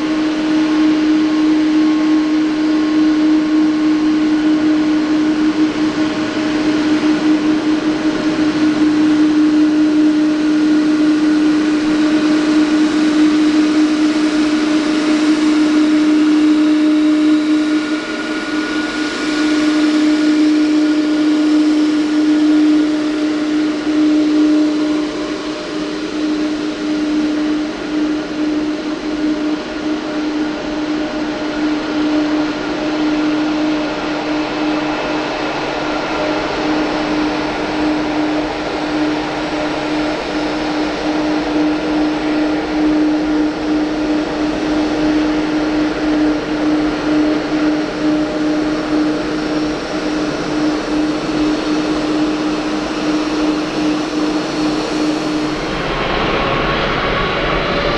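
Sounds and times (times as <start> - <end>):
jet engines drone: 0.0 - 57.9.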